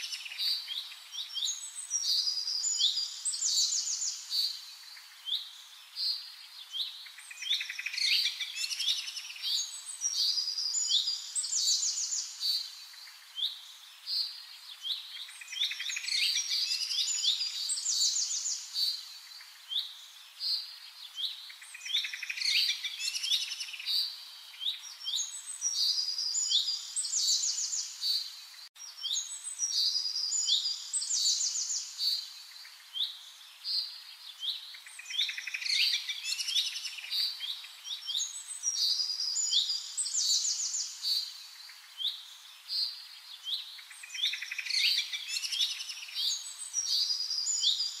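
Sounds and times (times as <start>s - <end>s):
small birds chirping and twittering: 0.0s - 48.0s.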